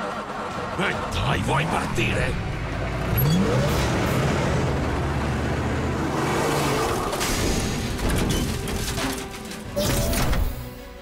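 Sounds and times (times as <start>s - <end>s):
fire truck engine rumbling: 0.0s - 9.7s
background music: 0.0s - 11.0s.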